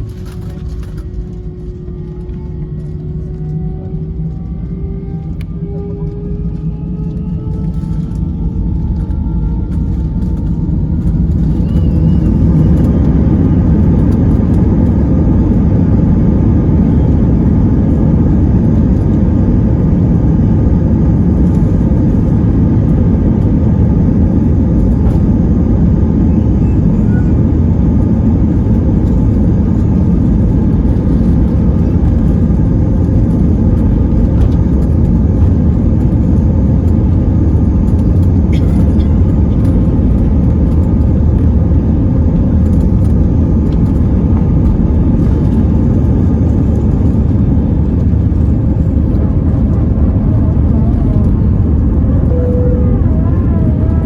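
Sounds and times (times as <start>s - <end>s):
jet engines whining and rumbling: 0.0s - 54.0s.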